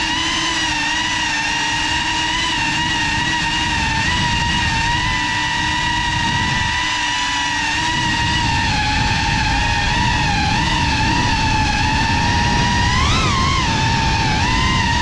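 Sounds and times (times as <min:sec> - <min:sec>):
drone propellers whining: 0:00.0 - 0:15.0
low wind rumble: 0:00.0 - 0:15.0.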